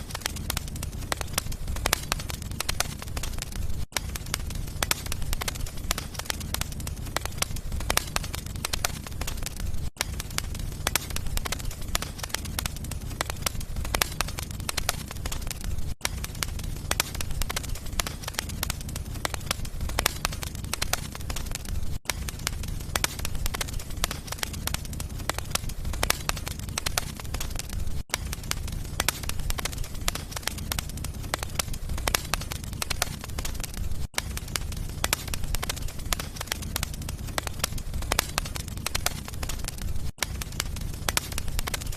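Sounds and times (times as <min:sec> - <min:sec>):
fire low rumble: 0:00.0 - 0:41.9
wood fire crackling and popping: 0:00.0 - 0:41.9.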